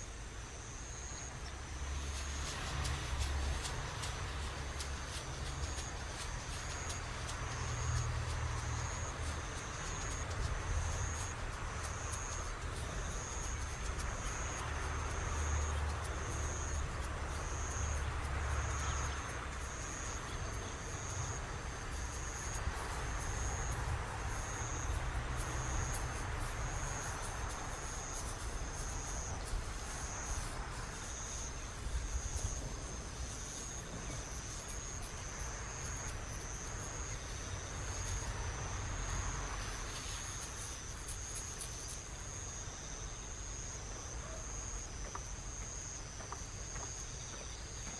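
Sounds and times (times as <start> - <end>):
insect chirping: 0.0 - 47.9.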